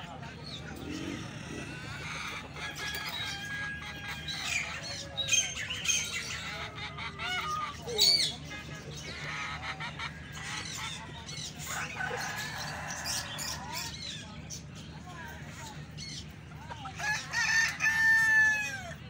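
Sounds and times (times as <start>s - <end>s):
caged birds calling: 0.0s - 19.0s.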